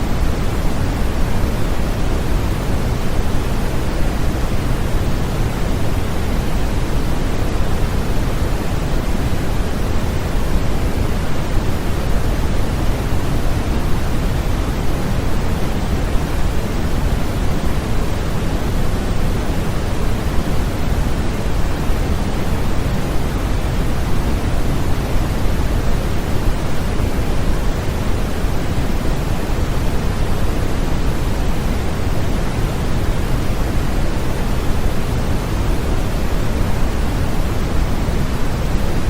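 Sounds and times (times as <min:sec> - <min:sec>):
steady white noise: 0:00.0 - 0:39.0.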